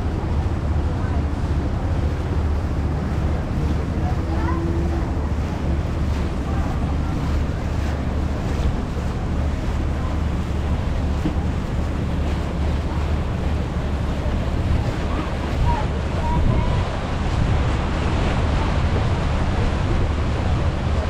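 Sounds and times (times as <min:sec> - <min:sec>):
boat engine drone: 0:00.0 - 0:21.0
water washing along hull: 0:00.0 - 0:21.0
wind buffeting microphone: 0:00.0 - 0:21.0.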